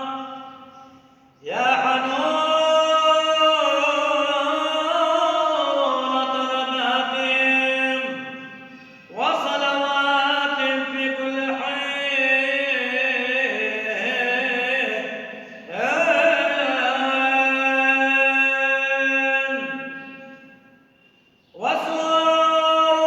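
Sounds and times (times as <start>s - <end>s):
man chanting prayer: 0.0s - 20.8s, 21.5s - 23.0s.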